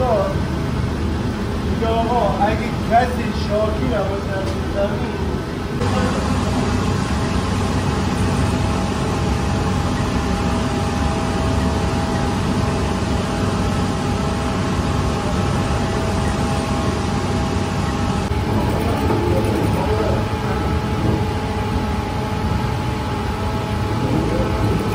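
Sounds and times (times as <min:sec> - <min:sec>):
faint steady whine: 0:00.0 - 0:24.9
machinery hum and rushing: 0:00.0 - 0:24.9.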